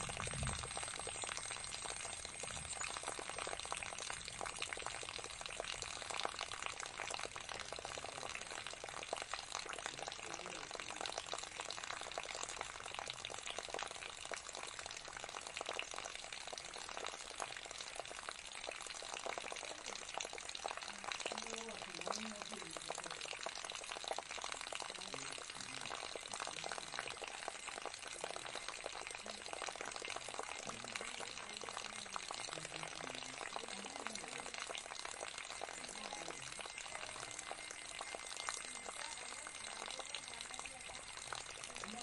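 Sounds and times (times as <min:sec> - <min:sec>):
water trickling into a bowl: 0:00.0 - 0:42.0.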